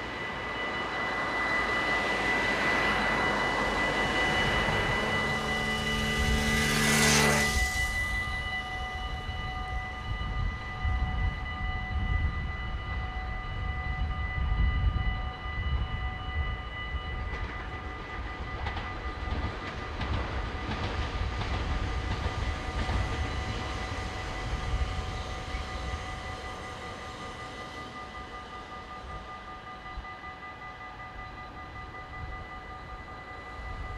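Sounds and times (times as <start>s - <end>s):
level crossing warning bell: 0.0s - 33.9s
passing train rattling: 0.0s - 33.9s.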